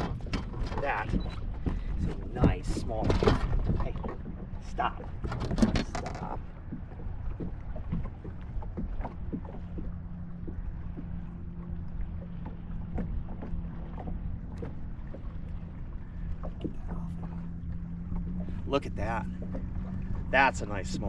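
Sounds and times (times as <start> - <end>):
fish flopping in a boat: 0.0 - 21.0
low steady hum: 0.0 - 21.0.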